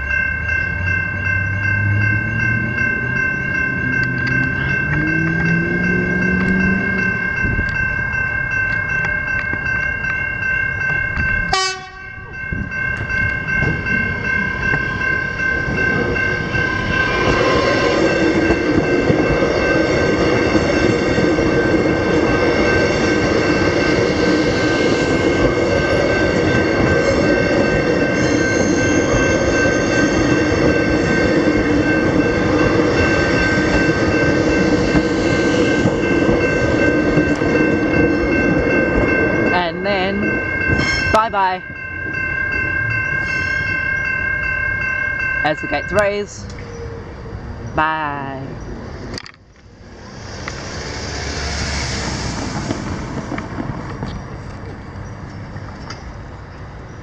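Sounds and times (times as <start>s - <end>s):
level crossing bells ringing: 0.0s - 49.1s
train passing: 0.0s - 57.0s.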